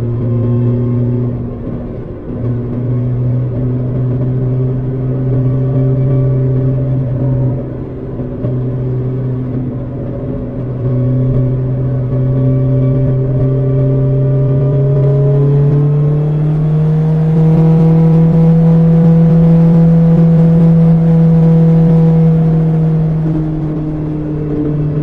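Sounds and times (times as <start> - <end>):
motorcycle engine while riding: 0.0 - 25.0.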